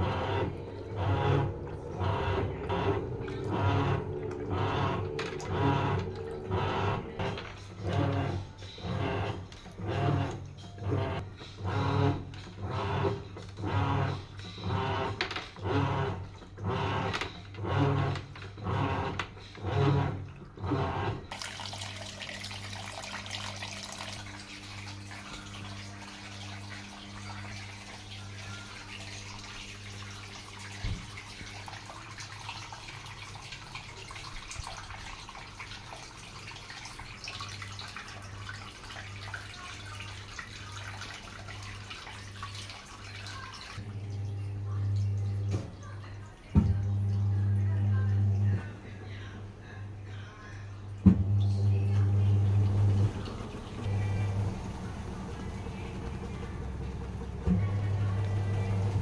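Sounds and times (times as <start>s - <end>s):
water rushing into washing machine: 0.0s - 48.7s, 51.0s - 59.0s
washing machine pulsing: 0.0s - 59.0s.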